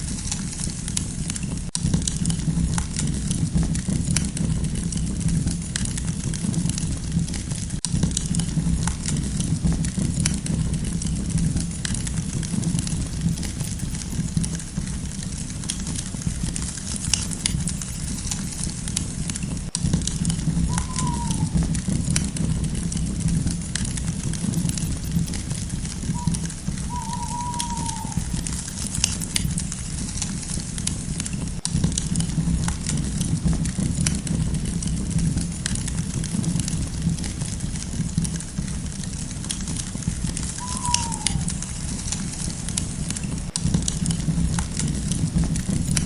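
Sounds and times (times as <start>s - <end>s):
campfire crackling: 4.2s - 46.0s.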